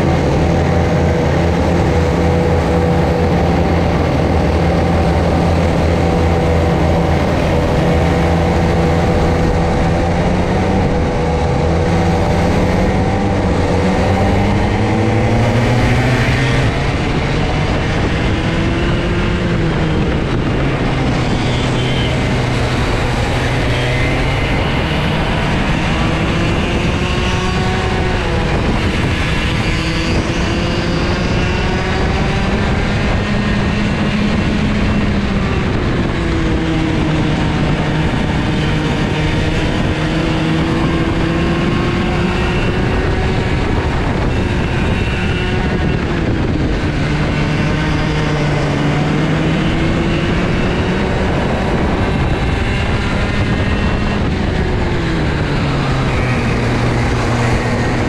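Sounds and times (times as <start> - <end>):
racing kart engines revving: 0.0 - 58.0.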